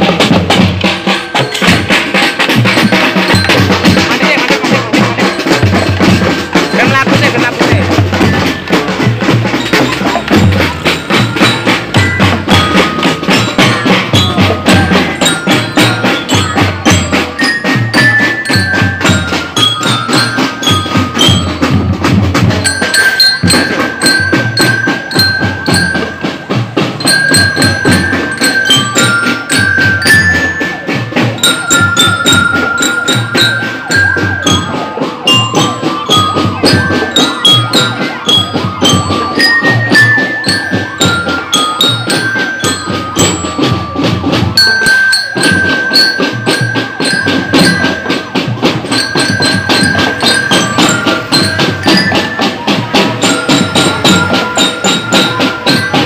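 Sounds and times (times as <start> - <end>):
glockenspiel melody: 0.0 - 56.0
marching drums: 0.0 - 56.0.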